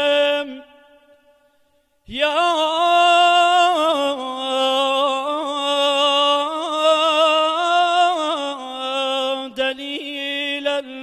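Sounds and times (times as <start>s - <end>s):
man singing unaccompanied: 0.0s - 1.1s, 2.0s - 11.0s.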